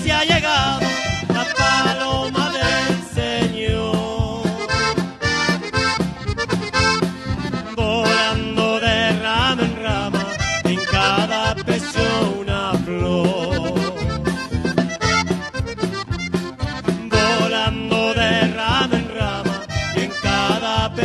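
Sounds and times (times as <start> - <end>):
accordion melody: 0.0 - 21.0
acoustic and electric guitars: 0.0 - 21.0
drum kit steady beat: 0.0 - 21.0.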